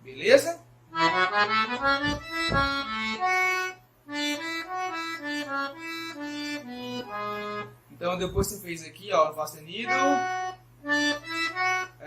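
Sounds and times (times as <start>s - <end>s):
accordion slow melody: 0.8s - 8.5s, 9.8s - 12.0s.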